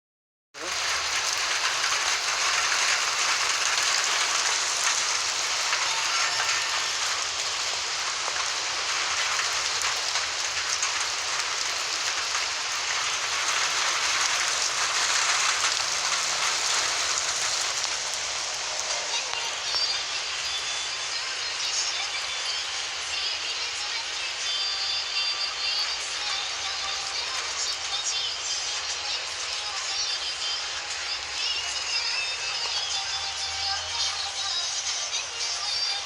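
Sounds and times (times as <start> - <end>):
heavy rain falling: 0.6 - 36.0.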